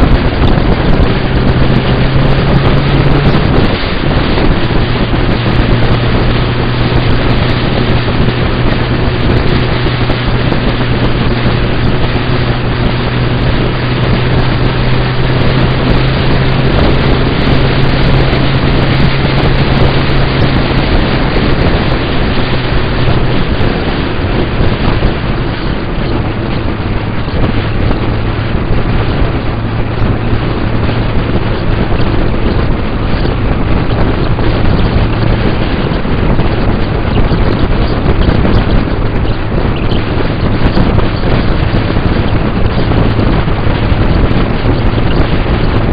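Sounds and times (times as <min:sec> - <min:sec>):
motorcycle engine cruising: 0:00.0 - 0:45.9
wind buffeting microphone: 0:00.0 - 0:45.9.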